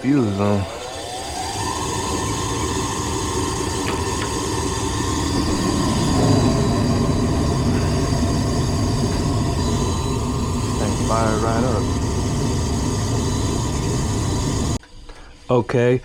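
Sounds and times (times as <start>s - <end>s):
furnace motor humming: 0.0s - 16.0s.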